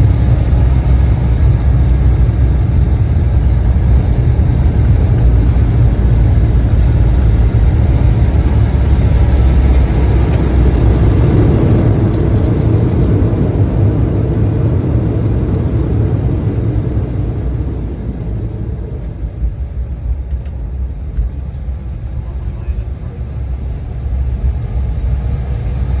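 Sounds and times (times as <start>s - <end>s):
jet engines: 0.0s - 26.0s
wheels rumbling on runway: 0.0s - 26.0s.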